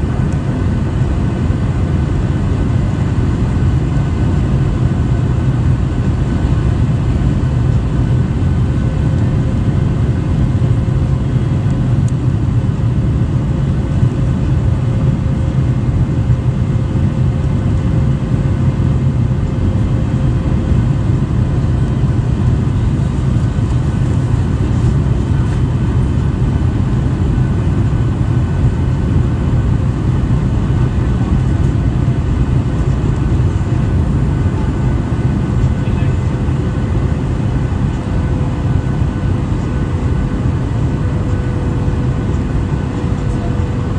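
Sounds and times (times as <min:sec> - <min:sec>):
faint steady whines: 0:00.0 - 0:43.9
jet engine cabin drone: 0:00.0 - 0:43.9.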